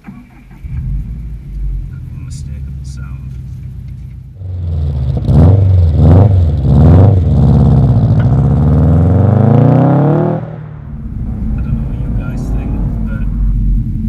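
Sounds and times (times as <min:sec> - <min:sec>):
car engine revving: 0:00.0 - 0:14.0
car accelerating away: 0:00.5 - 0:14.0.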